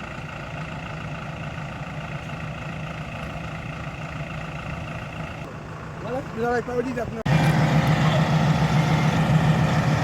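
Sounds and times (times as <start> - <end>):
heavy vehicle engine drone: 0.0 - 10.0.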